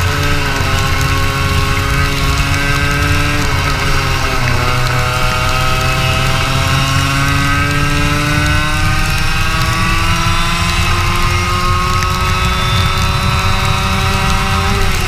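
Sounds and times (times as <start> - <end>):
kart engine running: 0.0 - 15.0
low rumble: 0.0 - 15.0.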